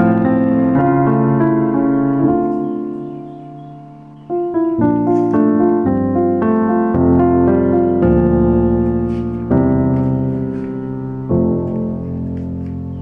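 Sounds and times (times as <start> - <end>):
slow sustained piano chords: 0.0 - 13.0.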